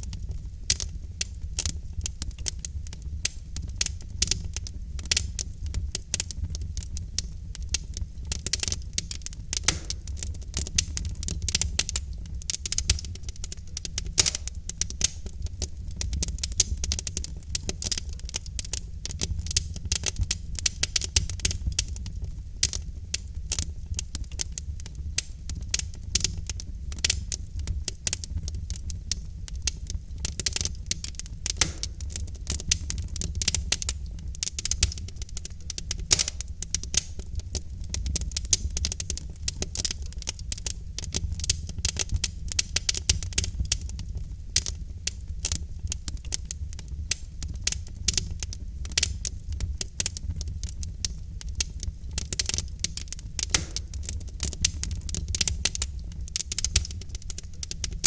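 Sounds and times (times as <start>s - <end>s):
low rumble of fire: 0.0s - 58.0s
wood fire crackling and popping: 0.0s - 58.0s.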